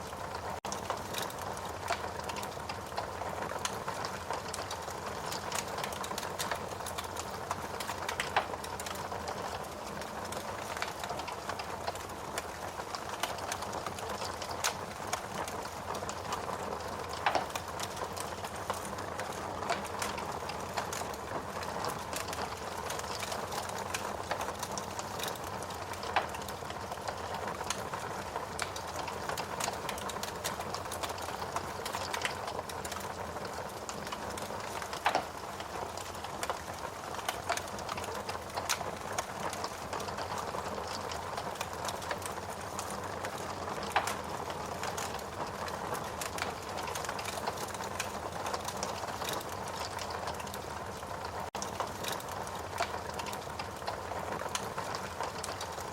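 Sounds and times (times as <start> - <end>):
fire crackling and popping: 0.0 - 55.9.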